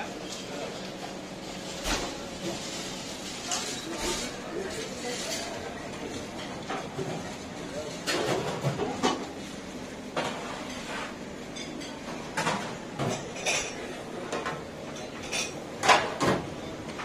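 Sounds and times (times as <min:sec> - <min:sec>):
plates and utensils clattering: 0:00.0 - 0:17.0.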